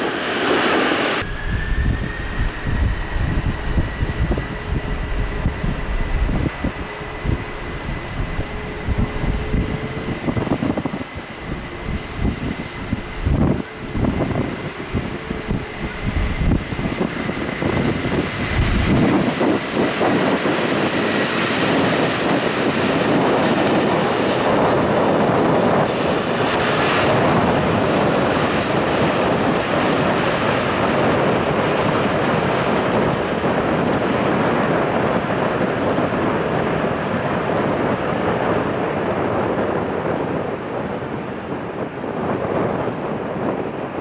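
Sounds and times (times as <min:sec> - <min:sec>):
jet aircraft engines running: 0:00.0 - 0:44.0
wind buffeting on microphone: 0:00.0 - 0:44.0.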